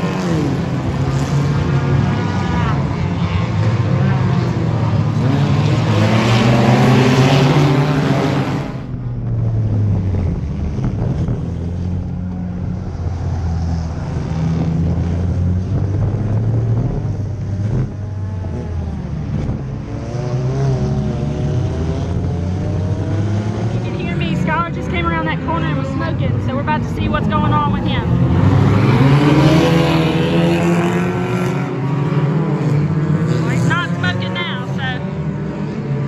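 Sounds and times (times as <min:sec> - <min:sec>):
race car engine under load: 0:00.0 - 0:36.0
race car engines at speed: 0:00.0 - 0:36.0.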